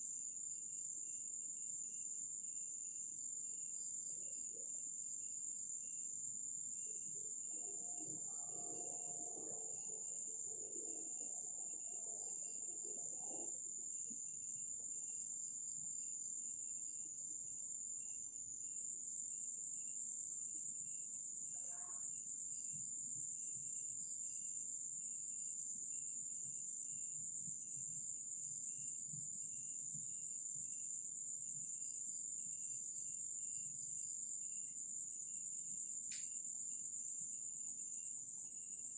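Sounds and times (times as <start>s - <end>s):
crickets trilling: 0.2s - 38.9s.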